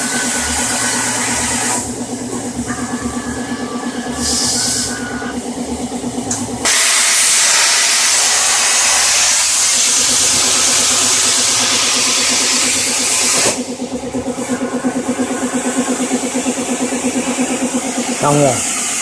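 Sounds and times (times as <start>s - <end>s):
plasma cutter torch hissing: 0.0s - 2.0s, 3.2s - 5.4s, 6.3s - 13.8s, 14.4s - 19.0s
pulsing machine hum: 0.0s - 19.0s.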